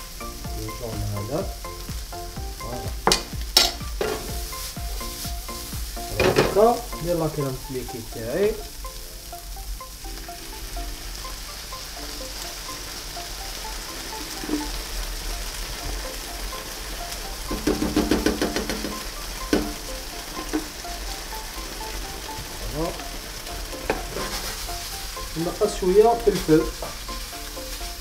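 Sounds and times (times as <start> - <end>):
cream sizzling in a frying pan: 0.0 - 28.0.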